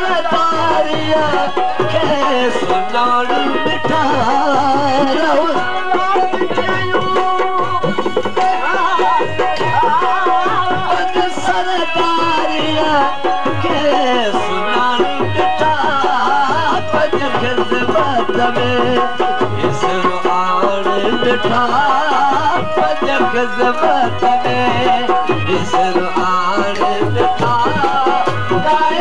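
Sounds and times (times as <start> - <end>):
hand drum beat: 0.0 - 29.0
man singing: 0.0 - 29.0.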